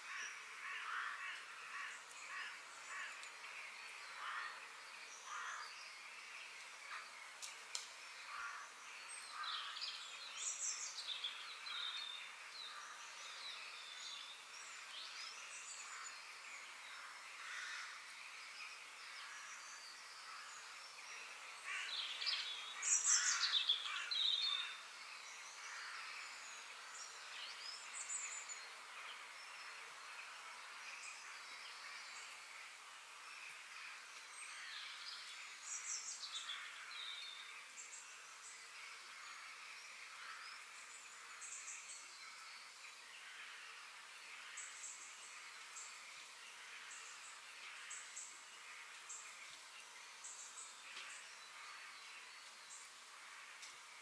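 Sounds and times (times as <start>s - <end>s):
faint steady hiss: 0.0s - 54.0s.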